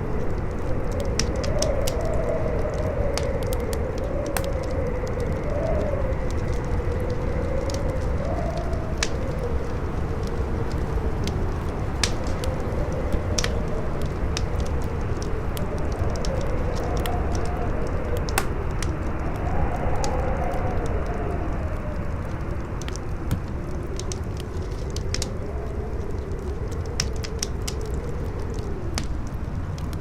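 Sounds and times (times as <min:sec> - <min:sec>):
campfire crackling: 0:00.0 - 0:30.0
howling wind: 0:00.0 - 0:30.0.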